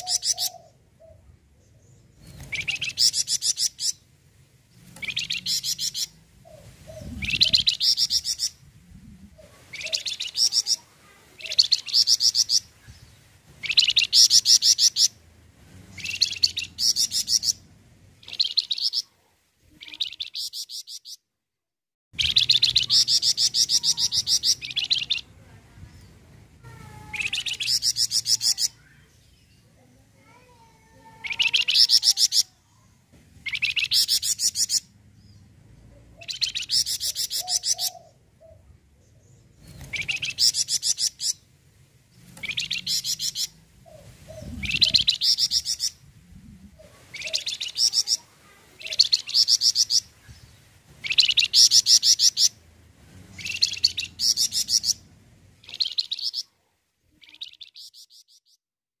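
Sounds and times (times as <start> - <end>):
songbird chattering: 0.0 - 4.0, 4.8 - 8.6, 9.6 - 15.2, 16.0 - 17.6, 18.2 - 19.2, 19.8 - 21.2, 22.2 - 25.4, 26.7 - 29.6, 30.2 - 32.8, 33.4 - 35.4, 36.2 - 41.5, 42.2 - 52.6, 53.3 - 55.0, 55.6 - 56.5, 57.1 - 58.6.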